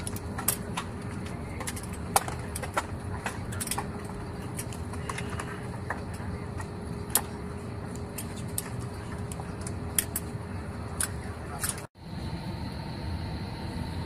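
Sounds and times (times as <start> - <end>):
airliner cabin rumble: 0.0 - 14.0
faint steady whine: 0.0 - 14.0.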